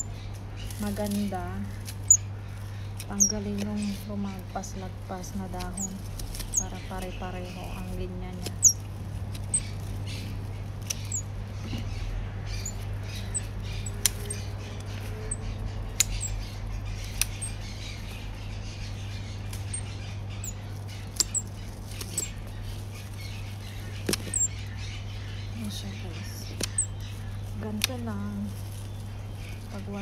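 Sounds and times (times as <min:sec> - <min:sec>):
scissors snipping fronds: 0:00.0 - 0:24.8, 0:25.5 - 0:30.0
small birds chirping: 0:00.0 - 0:30.0
steady low hum: 0:00.0 - 0:30.0.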